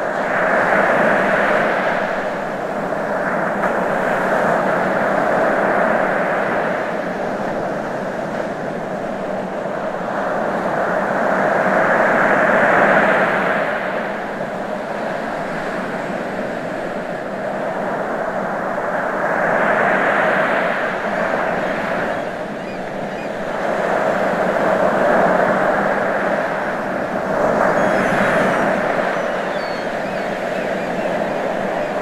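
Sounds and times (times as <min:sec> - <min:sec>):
ocean waves washing ashore: 0:00.0 - 0:32.0.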